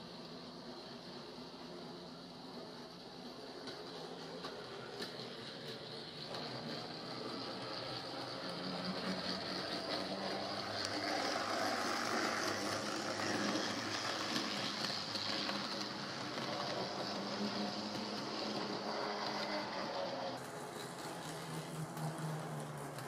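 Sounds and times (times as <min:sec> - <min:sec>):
train running: 0:00.0 - 0:23.0.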